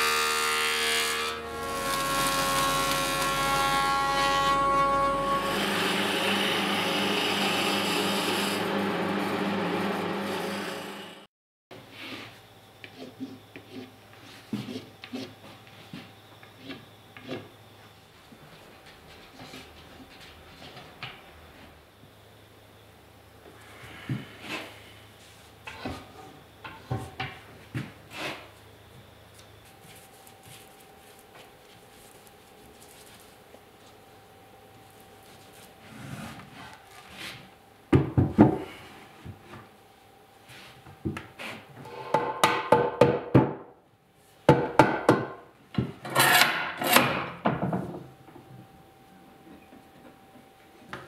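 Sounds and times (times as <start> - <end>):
faint workshop background: 0.0 - 51.0.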